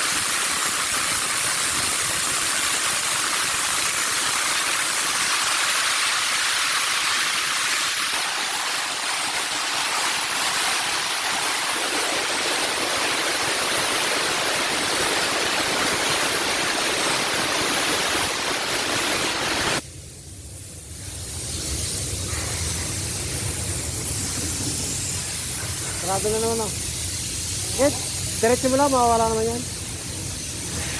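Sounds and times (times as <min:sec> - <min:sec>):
steam wand hissing: 0:00.0 - 0:30.9.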